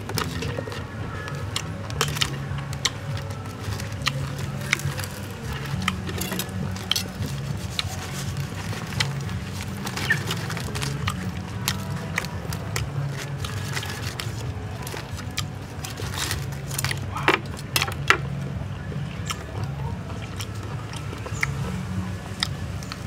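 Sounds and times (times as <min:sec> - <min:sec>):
crisp duck skin and bones cracking: 0:00.0 - 0:18.5
steady low rumble: 0:00.0 - 0:23.0.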